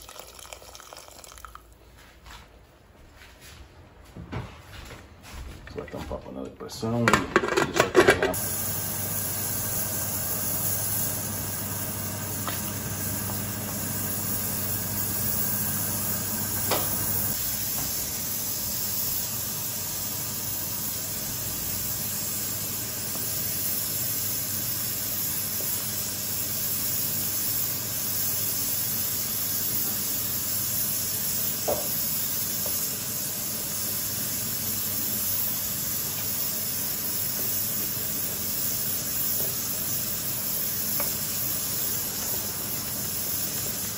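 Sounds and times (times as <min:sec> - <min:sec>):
pressure cooker hissing: 0:07.4 - 0:43.9.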